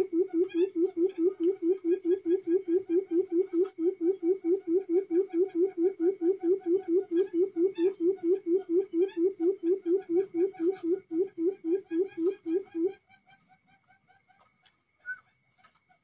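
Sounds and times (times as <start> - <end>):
quail low hooting calls: 0.0 - 15.8.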